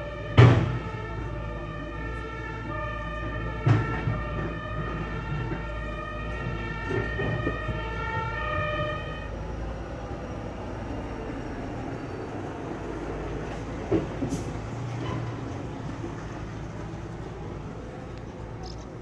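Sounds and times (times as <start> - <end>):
fire engine two-tone siren: 0.0 - 18.8
diesel engine running: 0.0 - 19.0.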